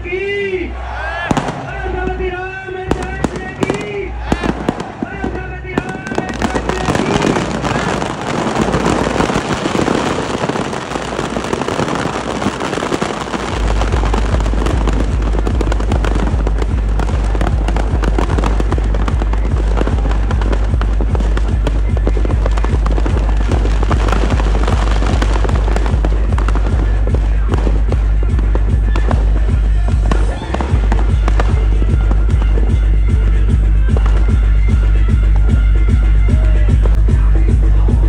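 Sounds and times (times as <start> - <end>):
firecrackers crackling: 1.3 - 37.1
music with heavy bass beat: 6.2 - 38.0.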